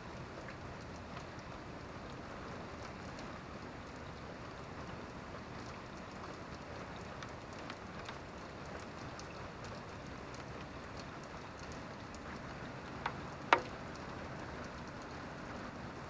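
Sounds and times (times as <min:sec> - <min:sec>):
steady rain: 0:00.0 - 0:16.0
water drips: 0:00.1 - 0:16.0.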